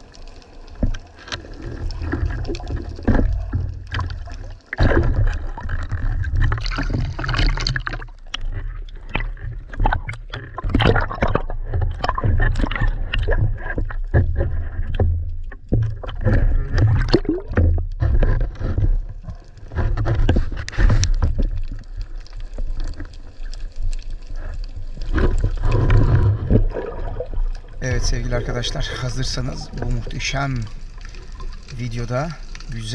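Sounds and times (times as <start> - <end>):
water sloshing and gurgling: 0.0 - 32.9
knocks and scrapes of handling: 0.3 - 26.7.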